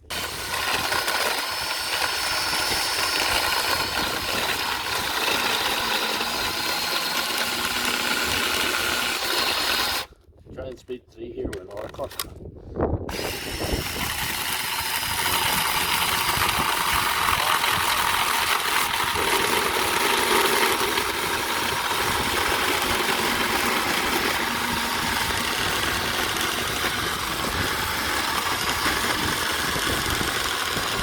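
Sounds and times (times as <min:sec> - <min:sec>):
chainsaw chain cutting wood: 0:00.0 - 0:10.1, 0:13.1 - 0:31.0.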